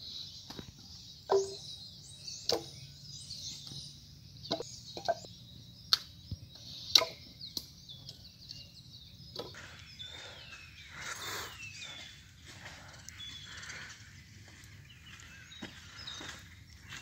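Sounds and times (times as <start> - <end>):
birds singing: 0.0 - 17.0.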